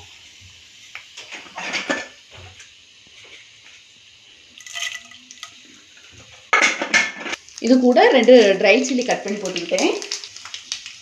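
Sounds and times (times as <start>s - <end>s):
hot oil sizzling: 0.0s - 11.0s
loud sizzle: 0.0s - 11.0s.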